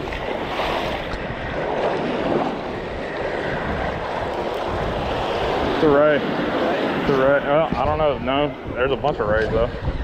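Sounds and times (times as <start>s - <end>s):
surf waves washing on sand: 0.0s - 10.0s
wind noise on microphone: 0.0s - 10.0s.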